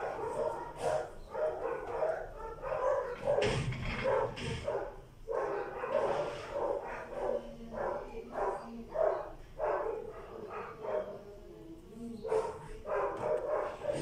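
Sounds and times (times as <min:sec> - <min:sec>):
dog barking: 0:00.0 - 0:11.4, 0:12.2 - 0:14.0.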